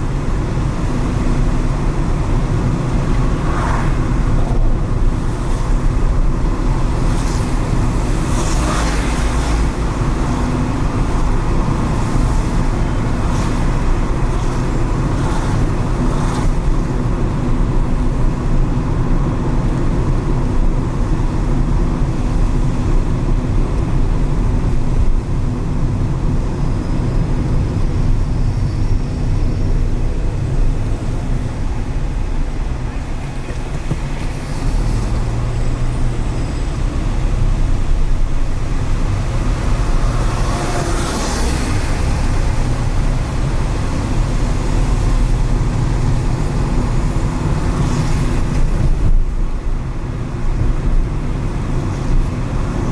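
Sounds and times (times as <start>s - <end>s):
road and engine rumble: 0.0s - 52.9s
tyres hissing on wet road: 0.2s - 23.6s, 26.7s - 52.9s.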